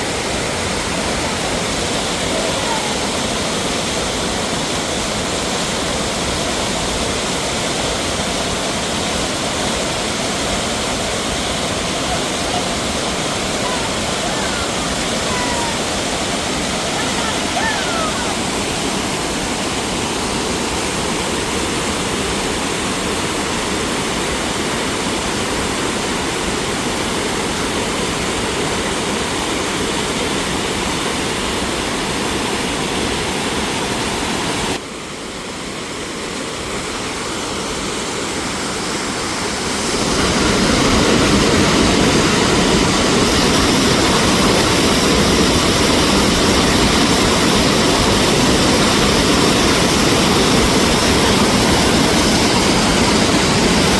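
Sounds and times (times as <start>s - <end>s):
water rushing over rocks: 0.0s - 53.9s.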